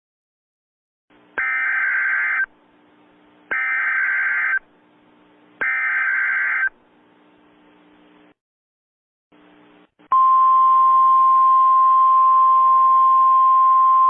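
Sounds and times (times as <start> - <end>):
faint steady hum and hiss: 1.1 - 8.4, 9.4 - 14.0.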